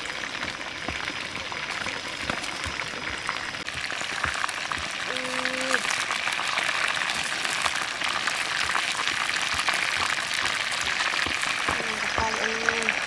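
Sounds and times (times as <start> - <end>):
deep-frying in hot oil: 0.0 - 13.0.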